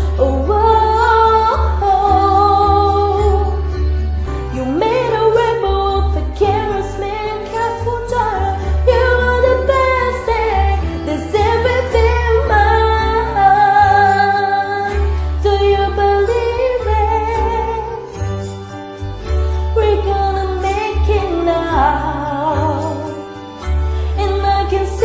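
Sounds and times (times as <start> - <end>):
person singing pop song: 0.0 - 25.0
steady bass line: 0.0 - 25.0.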